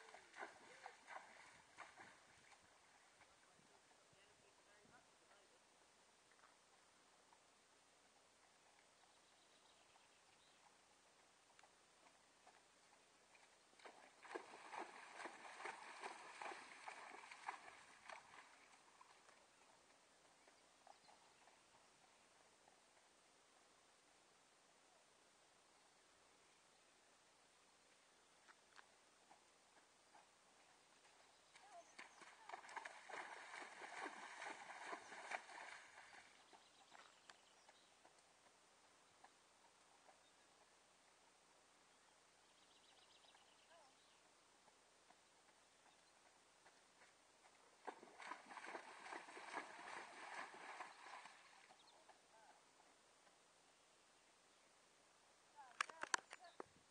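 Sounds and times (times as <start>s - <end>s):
faint hoofbeats on sand: 0.0s - 5.6s, 6.3s - 23.4s, 27.9s - 53.5s
hooves splashing through water: 0.0s - 24.2s, 27.9s - 53.6s.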